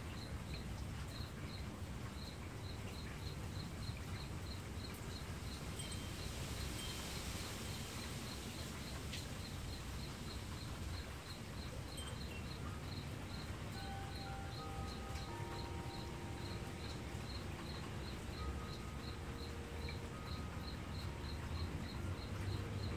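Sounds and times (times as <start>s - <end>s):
cricket chirping: 0.0s - 22.9s.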